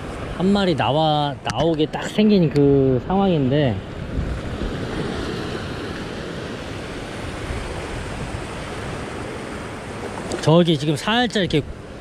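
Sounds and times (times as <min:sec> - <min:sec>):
wind rumbling on microphone: 0:00.0 - 0:10.5
sea surf breaking on rocks: 0:00.0 - 0:12.0.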